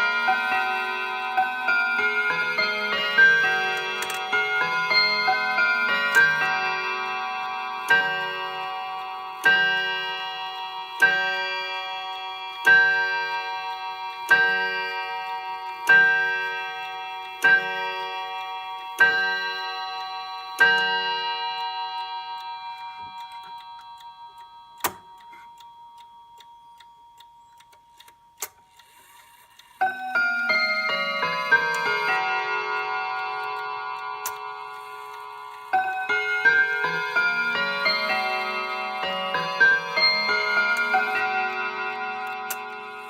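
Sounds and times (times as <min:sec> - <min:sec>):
clock chime striking: 0:00.0 - 0:26.0, 0:29.2 - 0:43.0.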